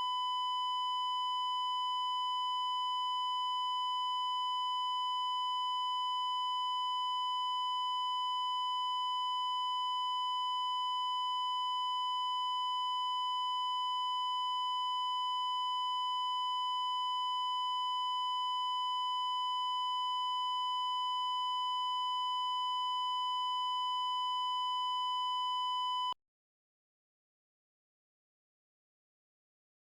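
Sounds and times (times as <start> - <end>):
continuous electronic beep tone: 0.0 - 26.2.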